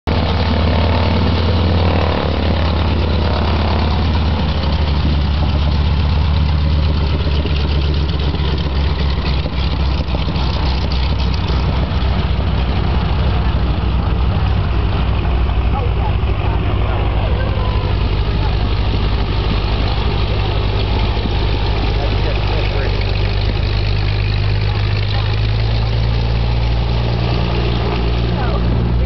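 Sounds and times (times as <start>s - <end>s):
propeller plane engine rumble: 0.0s - 29.0s.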